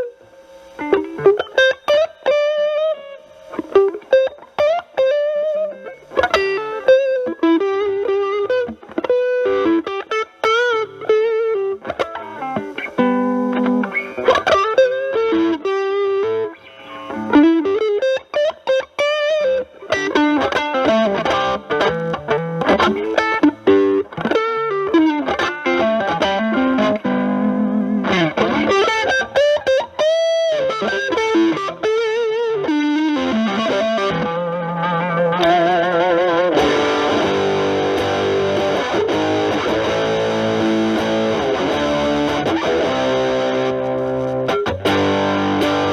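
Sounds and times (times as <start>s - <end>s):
distorted electric guitar blues lead: 0.0s - 45.9s.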